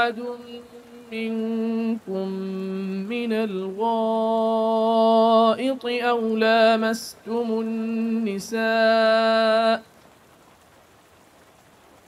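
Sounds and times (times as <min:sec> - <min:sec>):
man chanting recitation: 0:00.0 - 0:09.9.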